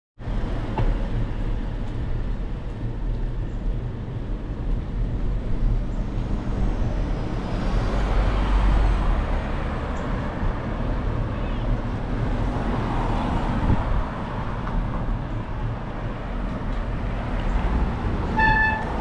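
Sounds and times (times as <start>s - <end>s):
wind rumble on microphone: 0.3s - 19.0s.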